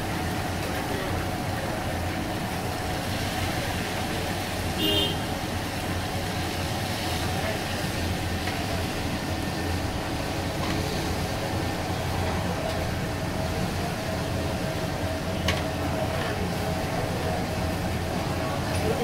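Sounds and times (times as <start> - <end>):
fish deep-frying sizzle: 0.0 - 19.0
traffic and street noise hum: 0.0 - 19.0.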